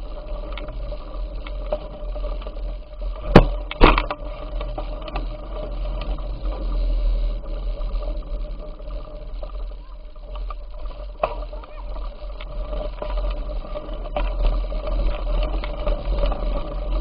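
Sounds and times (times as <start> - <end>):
bicycle rattles: 0.0 - 17.0.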